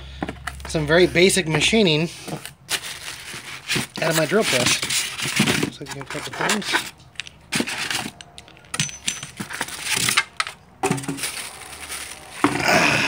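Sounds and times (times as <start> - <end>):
packaging rustling and scraping: 0.1 - 13.0.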